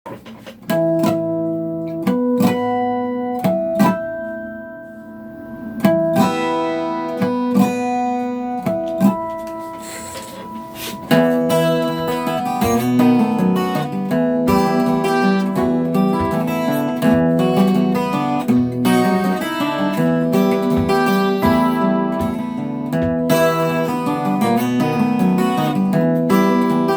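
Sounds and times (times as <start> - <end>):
acoustic guitar strumming: 0.1 - 26.9.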